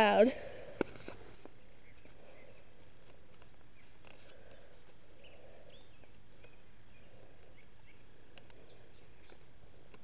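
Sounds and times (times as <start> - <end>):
small birds chirping: 0.0 - 10.0
steady low hiss: 0.0 - 10.0.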